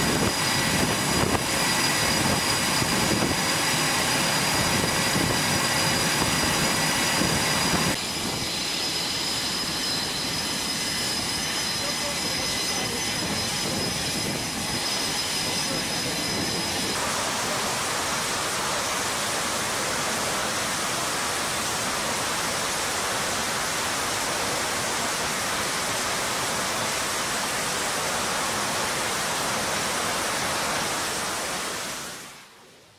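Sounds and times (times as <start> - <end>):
jet engines running up: 0.0 - 32.5.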